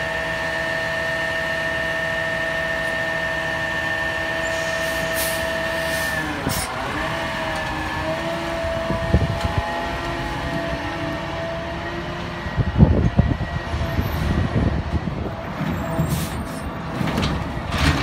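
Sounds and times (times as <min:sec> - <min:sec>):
garbage truck engine whining: 0:00.0 - 0:18.0.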